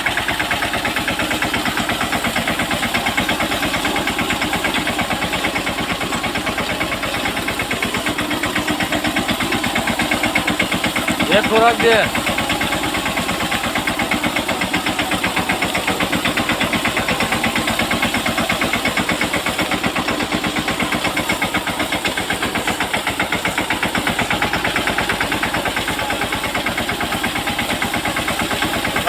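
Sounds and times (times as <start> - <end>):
tractor diesel engine chugging: 0.0 - 29.0.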